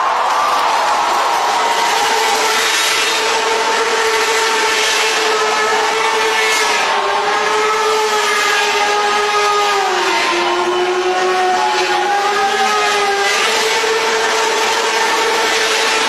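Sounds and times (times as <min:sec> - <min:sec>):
motorcycle engine high revs: 0:01.2 - 0:16.0.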